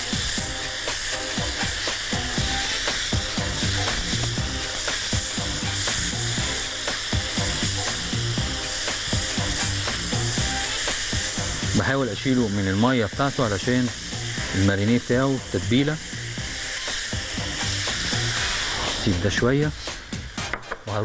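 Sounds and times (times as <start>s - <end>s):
squid sizzling on grill pan: 0.0s - 19.2s.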